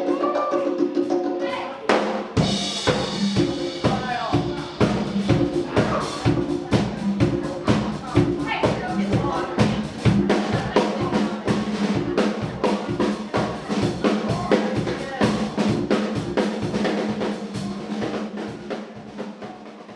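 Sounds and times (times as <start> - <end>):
rock band playing: 0.0 - 19.2
kick and snare drum beat: 1.8 - 19.9.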